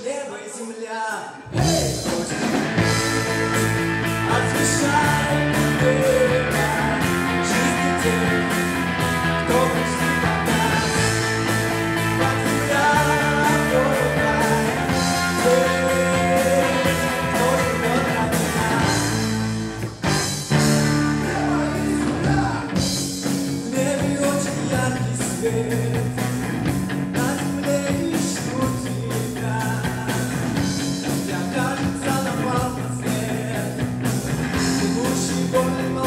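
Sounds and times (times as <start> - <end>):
electric guitar: 1.3 - 36.0
bass guitar: 1.4 - 36.0
steady drum beat: 1.5 - 36.0.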